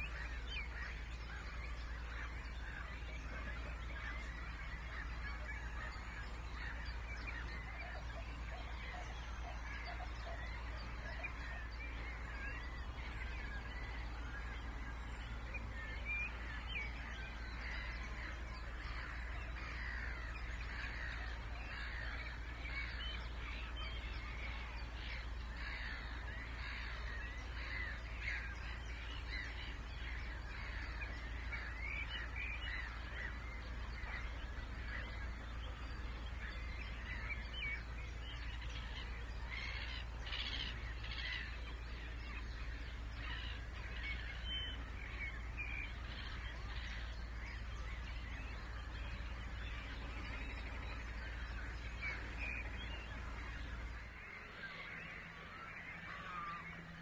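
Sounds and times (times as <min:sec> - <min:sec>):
birds calling and singing: 0:00.0 - 0:57.0
steady low hum: 0:00.0 - 0:57.0.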